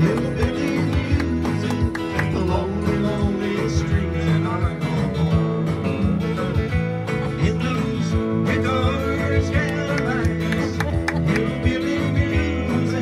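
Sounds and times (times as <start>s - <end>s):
acoustic guitars strumming: 0.0s - 13.0s.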